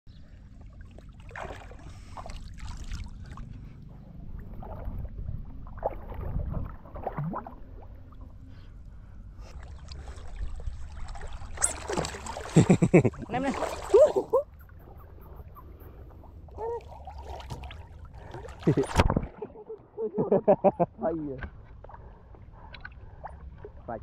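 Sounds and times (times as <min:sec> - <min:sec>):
water sloshing and splashing: 0:00.3 - 0:20.0, 0:21.3 - 0:24.0.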